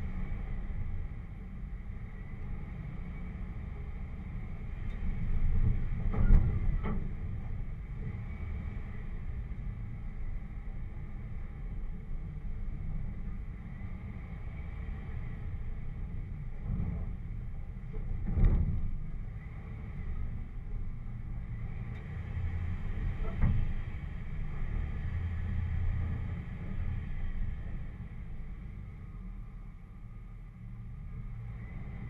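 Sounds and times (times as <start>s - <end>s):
engine low rumble: 0.0s - 32.0s.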